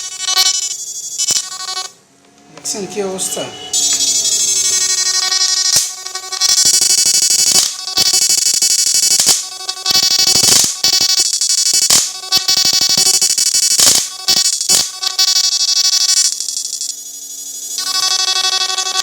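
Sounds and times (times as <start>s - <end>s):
electrical crackling bursts: 0.0s - 2.0s, 3.8s - 17.0s, 17.8s - 19.0s
electrical buzz: 0.0s - 19.0s.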